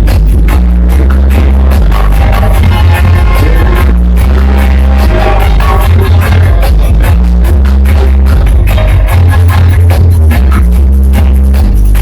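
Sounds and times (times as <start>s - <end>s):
loud music with heavy bass: 0.0s - 12.0s.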